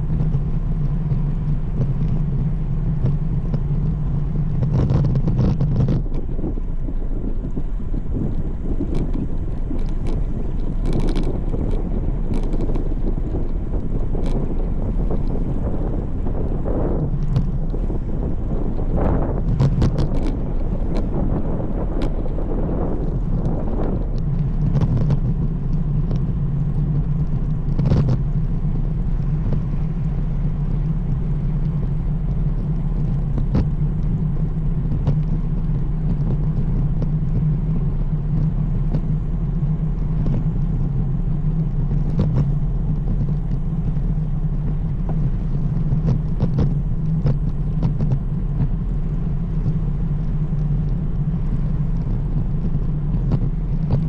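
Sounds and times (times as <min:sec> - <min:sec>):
bike rolling on pavement: 0:00.0 - 0:54.0
clicks from road bumps: 0:00.0 - 0:54.0
wind noise: 0:00.0 - 0:54.0.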